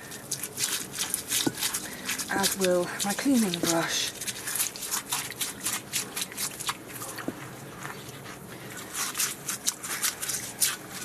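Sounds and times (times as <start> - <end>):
brush scrubbing basin: 0.0 - 11.0.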